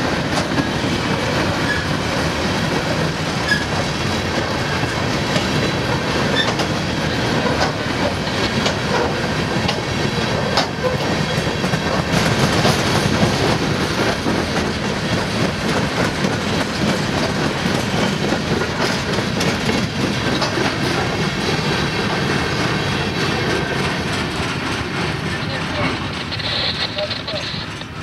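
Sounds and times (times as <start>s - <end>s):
freight train rolling past: 0.0s - 28.0s
steel wheels clacking over rail joints: 0.0s - 28.0s.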